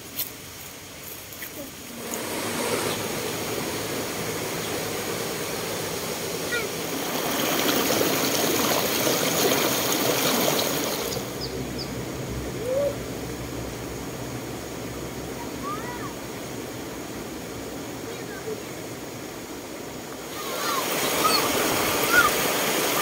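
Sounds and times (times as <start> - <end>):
stream rushing: 0.0 - 23.0.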